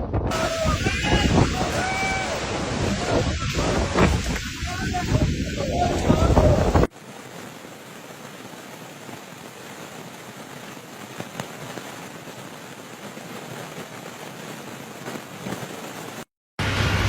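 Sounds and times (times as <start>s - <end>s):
storm wind roaring on microphone: 0.0s - 17.0s
soft hiss of stormy weather: 0.2s - 17.0s.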